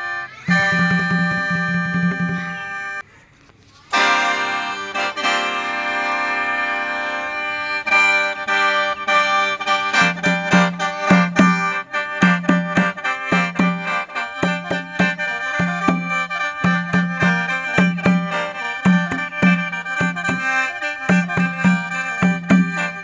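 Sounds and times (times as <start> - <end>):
mouth organ playing: 0.0 - 3.1, 3.9 - 23.0.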